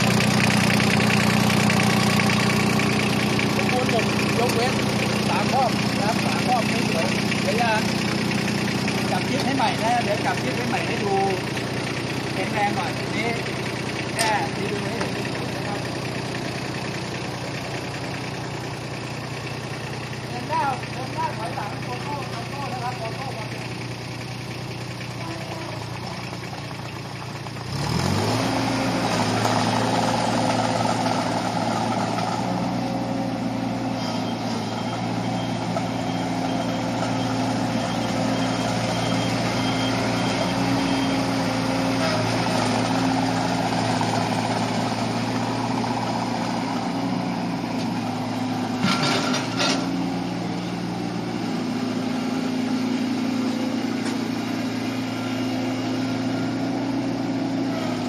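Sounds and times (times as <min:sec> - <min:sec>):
diesel tractor engine revving: 0:00.0 - 0:58.0.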